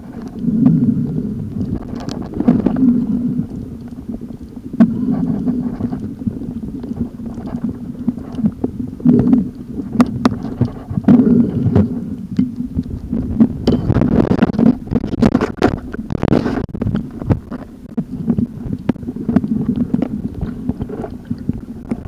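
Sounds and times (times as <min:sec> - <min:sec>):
underwater rumble of moving water: 0:00.0 - 0:22.0.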